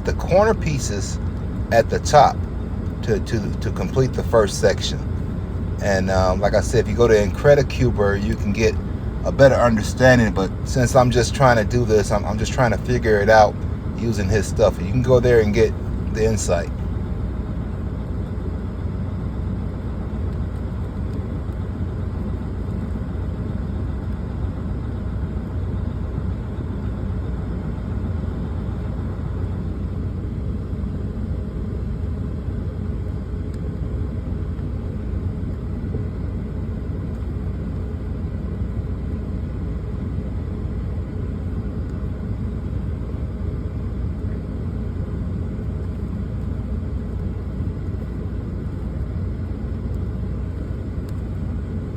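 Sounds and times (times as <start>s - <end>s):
truck engine rumble from cab: 0.0s - 51.9s.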